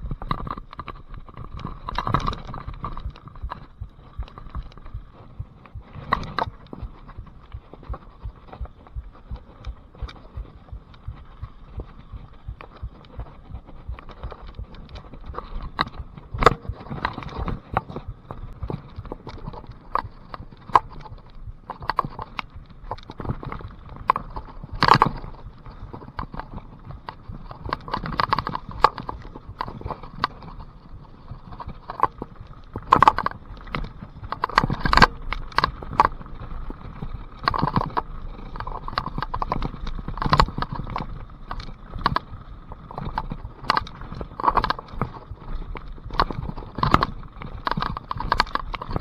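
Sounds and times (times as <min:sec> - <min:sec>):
bike jolts: 0:00.0 - 0:49.0
mountain bike rattling on trail: 0:00.0 - 0:49.0.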